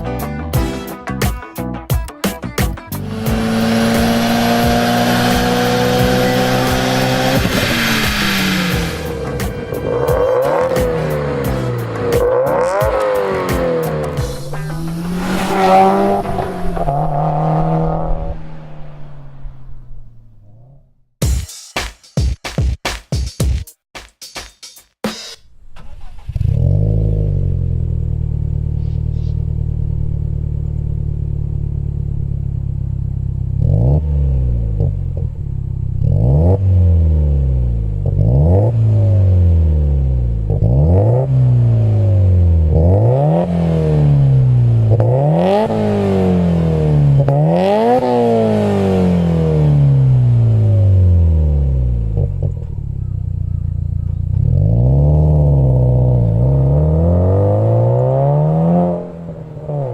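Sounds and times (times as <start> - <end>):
car engine idling and revving: 2.8 - 21.2, 25.5 - 59.9.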